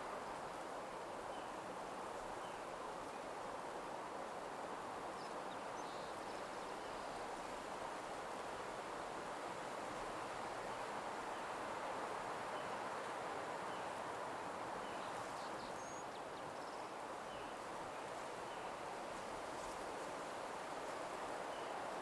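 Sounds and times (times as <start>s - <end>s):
wind through leaves: 0.0s - 22.0s.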